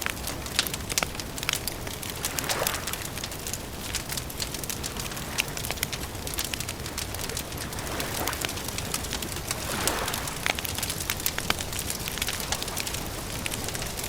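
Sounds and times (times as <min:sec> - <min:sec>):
fire rumbling: 0:00.0 - 0:14.0
wood fire crackling: 0:00.0 - 0:14.0.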